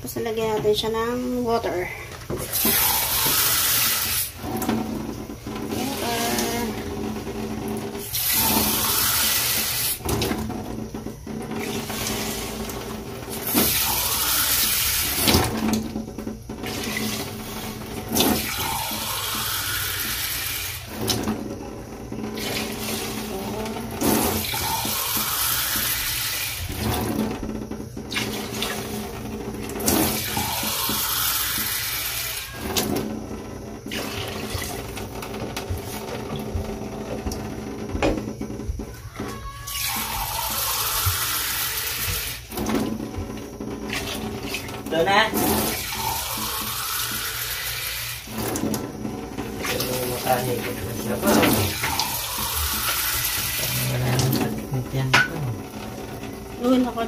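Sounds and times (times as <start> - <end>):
water pouring into metal pot: 2.2 - 27.4, 28.0 - 33.0, 39.1 - 43.0, 43.6 - 57.0.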